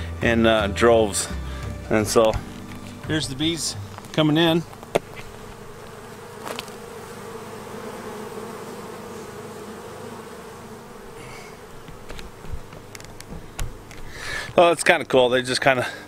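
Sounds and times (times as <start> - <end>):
swarm of bees buzzing: 1.3 - 14.6.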